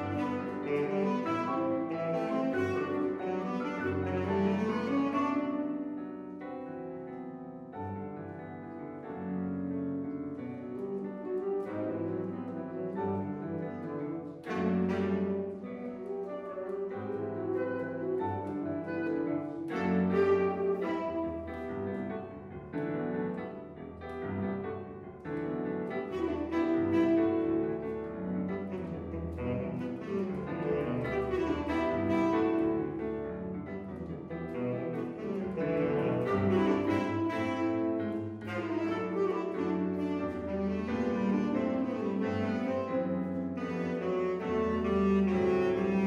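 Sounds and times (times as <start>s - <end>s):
tenor saxophone melody: 0.0s - 6.8s, 9.2s - 46.0s
piano chords: 0.0s - 46.0s.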